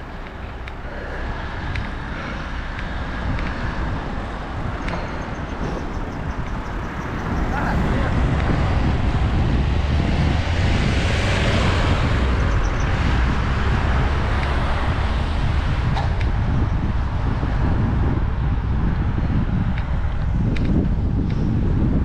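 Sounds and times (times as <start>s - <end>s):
tyre and road rumble: 0.0s - 22.0s
wind buffeting microphone: 0.0s - 22.0s.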